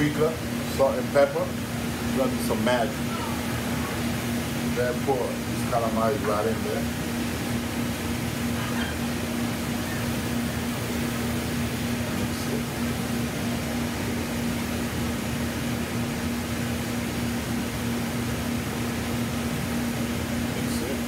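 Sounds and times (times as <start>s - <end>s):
kitchen equipment low hum: 0.0s - 21.0s.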